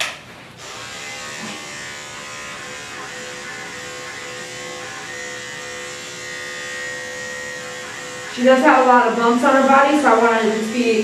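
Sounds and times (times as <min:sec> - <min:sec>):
electric dog clipper humming: 0:00.0 - 0:11.0.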